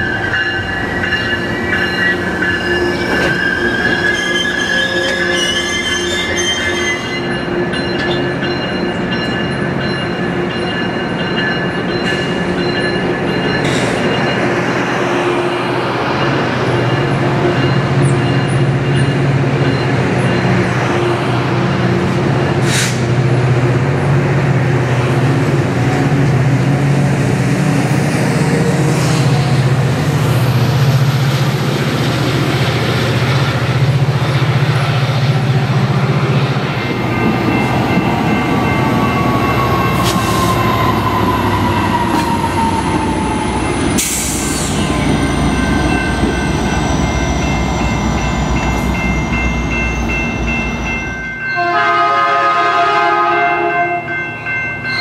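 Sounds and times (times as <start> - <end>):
train wheels rumbling on rail: 0.0 - 53.7.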